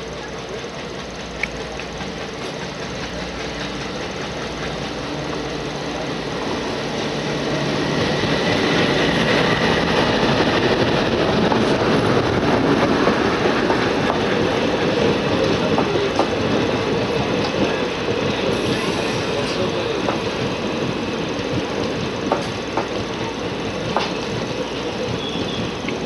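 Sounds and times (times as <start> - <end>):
diesel locomotive passing: 0.0 - 26.0
train wheels rumbling and clattering: 0.0 - 26.0.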